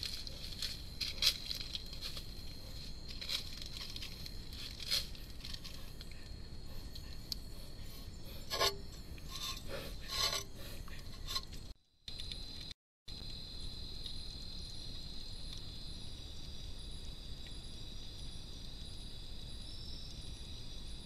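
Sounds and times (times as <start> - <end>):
night insects droning: 0.0 - 21.0.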